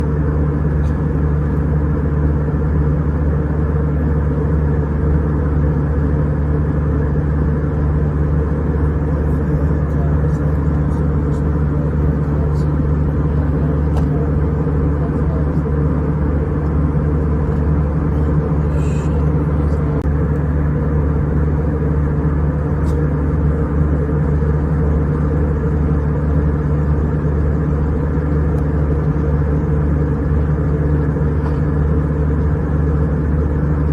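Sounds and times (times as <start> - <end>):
jet engine and airflow drone: 0.0 - 33.9.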